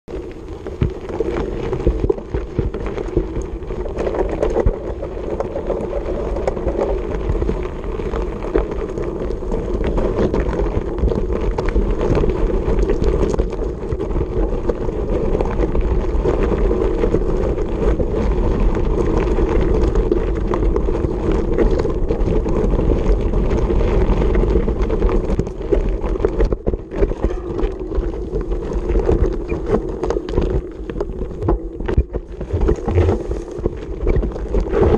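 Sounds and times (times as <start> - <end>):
bike rattling over stones: 0.1 - 34.9
wind noise on microphone: 0.1 - 34.9.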